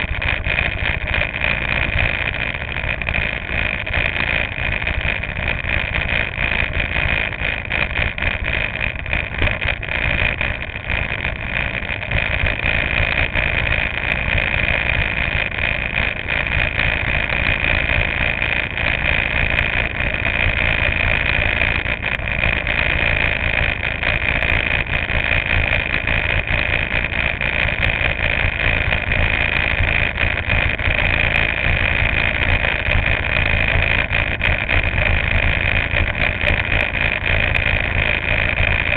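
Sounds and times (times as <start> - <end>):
go-kart engine idling: 0.0 - 38.9.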